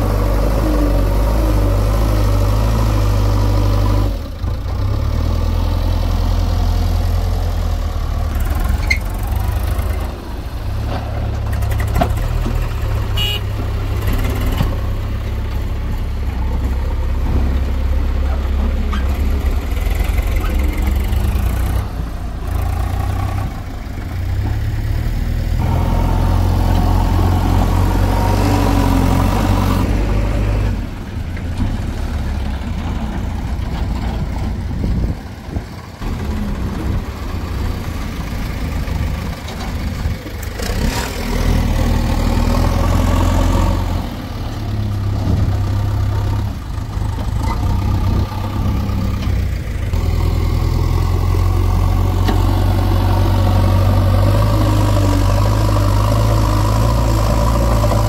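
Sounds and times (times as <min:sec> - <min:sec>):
heavy diesel engines working: 0:00.0 - 0:58.0.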